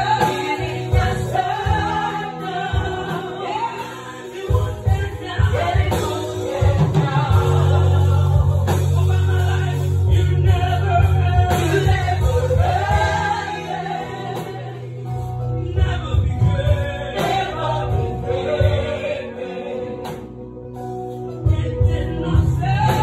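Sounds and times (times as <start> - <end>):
bass and drums: 0.0 - 19.3, 20.0 - 23.0
choir singing gospel: 0.0 - 23.0.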